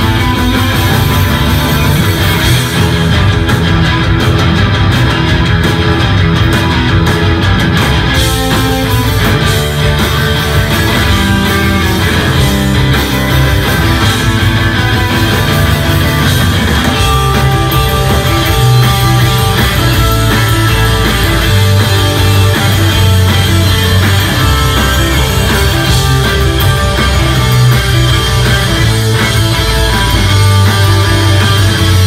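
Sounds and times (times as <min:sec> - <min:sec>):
distorted electric guitars: 0:00.0 - 0:32.0
live rock band playing: 0:00.0 - 0:32.0.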